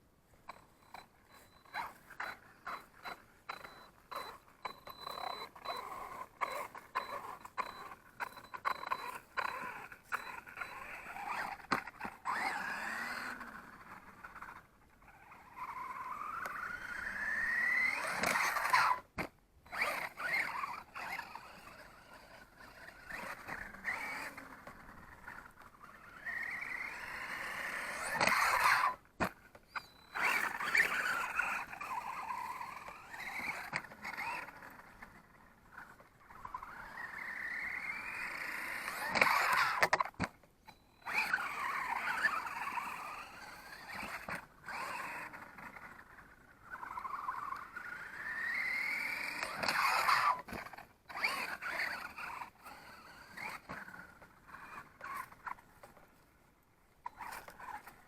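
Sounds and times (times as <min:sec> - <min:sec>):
electric motor whining: 0:00.5 - 0:55.9.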